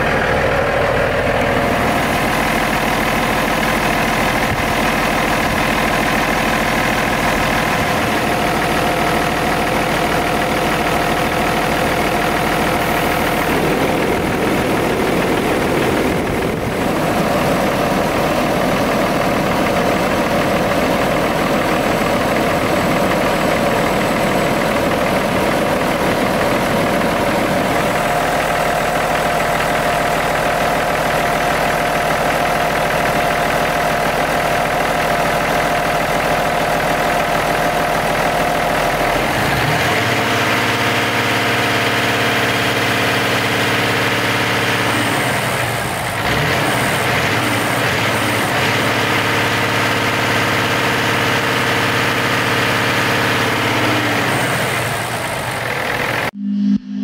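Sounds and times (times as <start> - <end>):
truck diesel engine idling: 0.0 - 56.4.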